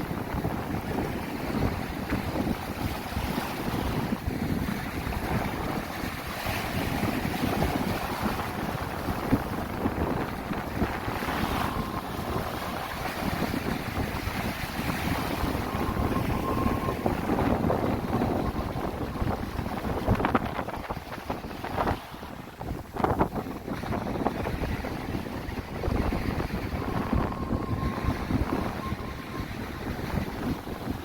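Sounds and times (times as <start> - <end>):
sea waves washing in: 0.0 - 31.0
steady wind: 0.0 - 31.0
wind buffeting microphone: 0.0 - 31.0.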